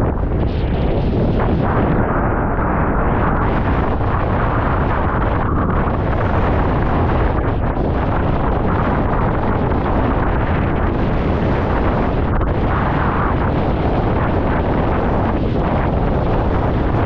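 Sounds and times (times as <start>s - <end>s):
strong storm wind: 0.0s - 17.0s.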